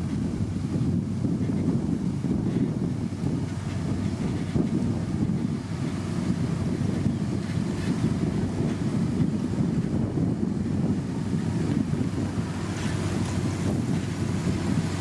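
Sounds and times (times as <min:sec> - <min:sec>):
heavy diesel engine rumbling: 0:00.0 - 0:15.0
wind buffeting microphone: 0:00.0 - 0:15.0.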